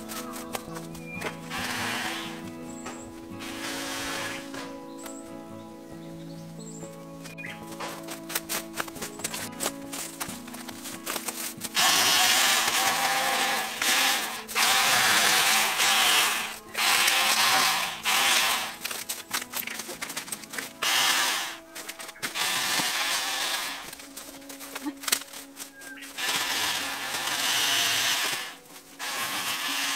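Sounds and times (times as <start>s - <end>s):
electric chainsaw cutting bamboo: 0.0s - 4.7s, 8.3s - 25.2s, 26.0s - 29.9s.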